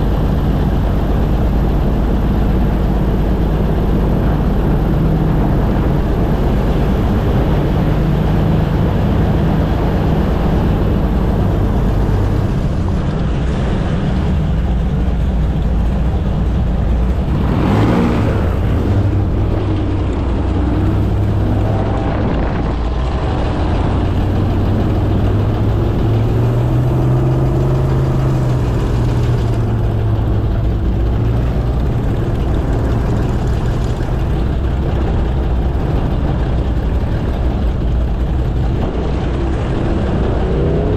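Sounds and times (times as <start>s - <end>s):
airboat engine droning: 0.0s - 40.9s.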